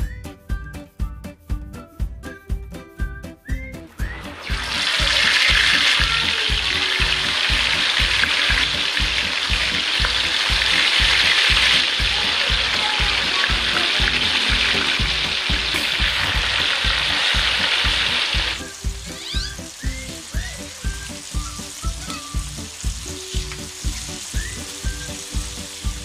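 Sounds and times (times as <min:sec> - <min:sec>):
background music with low beat: 0:00.0 - 0:26.0
chicken deep-frying sizzle: 0:03.8 - 0:26.0.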